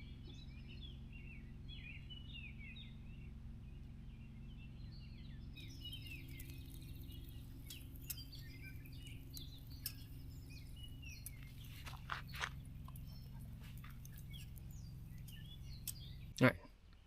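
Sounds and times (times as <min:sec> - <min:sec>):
steady low rumble: 0:00.0 - 0:16.4
songbirds chirping: 0:00.0 - 0:17.0.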